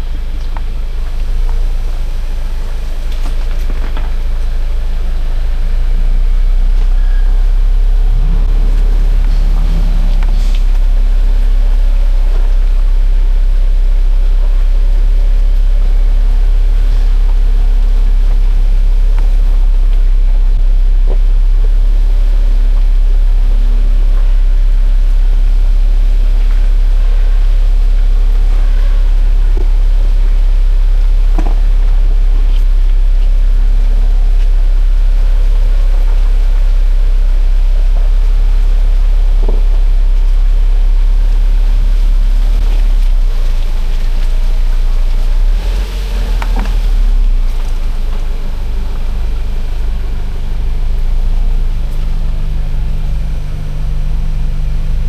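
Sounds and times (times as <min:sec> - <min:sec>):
off-road vehicle deep rumble: 0:00.0 - 0:55.0
wavering engine tone: 0:00.0 - 0:55.0.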